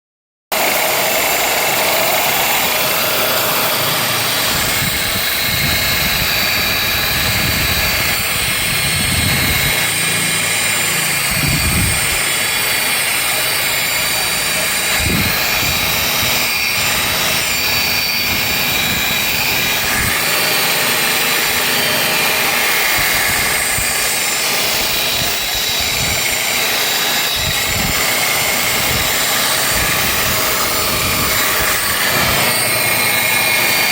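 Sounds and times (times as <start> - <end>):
paint buffer motor whine: 0.5 - 33.9.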